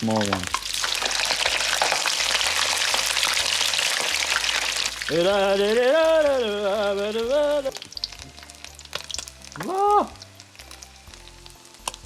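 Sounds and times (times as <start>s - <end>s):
oil crackling sizzle: 0.0s - 12.0s.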